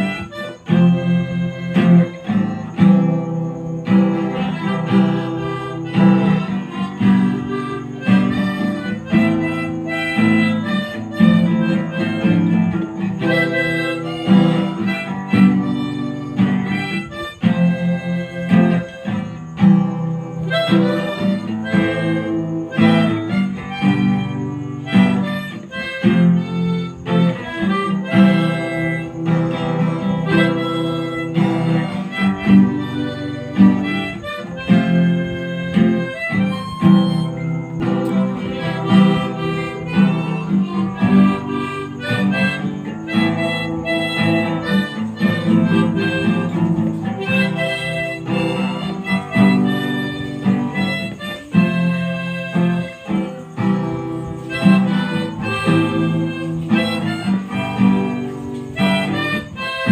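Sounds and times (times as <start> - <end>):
guitar: 0.0 - 59.9
harmonica: 0.0 - 59.9.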